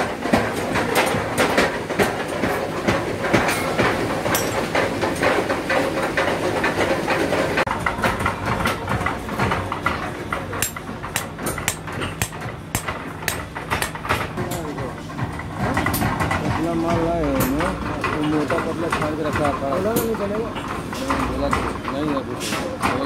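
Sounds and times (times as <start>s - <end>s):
rattling workshop clatter: 0.0s - 23.0s.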